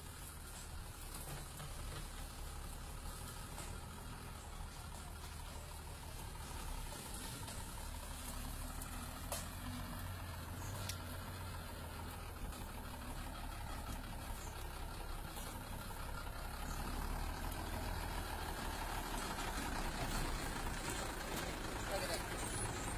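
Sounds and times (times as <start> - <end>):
truck engine rumbling: 0.0 - 22.9.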